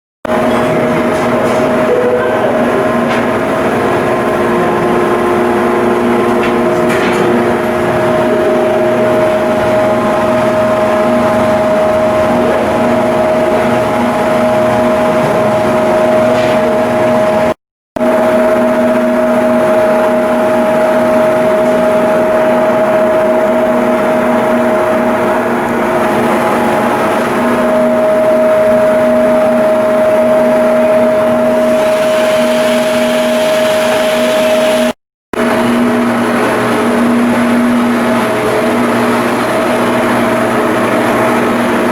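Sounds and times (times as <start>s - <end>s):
machinery humming: 0.2s - 41.9s.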